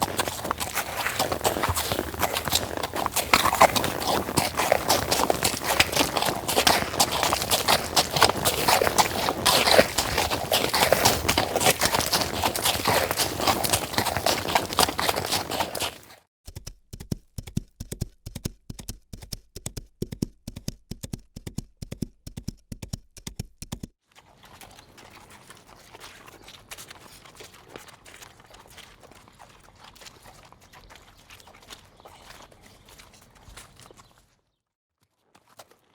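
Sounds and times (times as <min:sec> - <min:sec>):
horse hooves clip-clopping: 0:00.0 - 0:23.9, 0:24.5 - 0:34.2.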